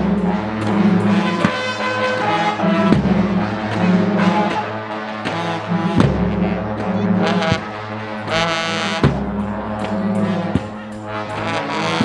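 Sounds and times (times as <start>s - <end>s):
horns holding long notes: 0.0s - 12.0s.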